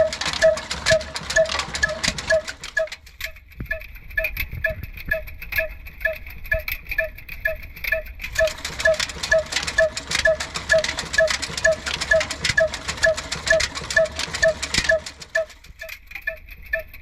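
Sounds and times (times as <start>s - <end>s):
diesel engine knocking: 0.0s - 17.0s.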